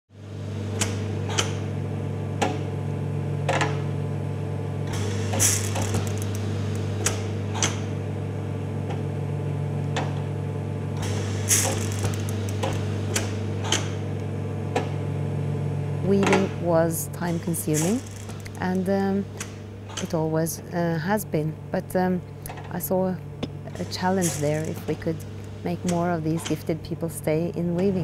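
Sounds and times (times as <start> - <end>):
loom electrical hum: 0.1 - 28.0.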